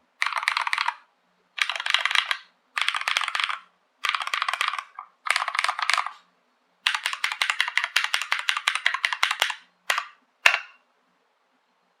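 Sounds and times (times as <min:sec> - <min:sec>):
mechanical keyboard typing: 0:00.2 - 0:06.2, 0:06.8 - 0:10.8.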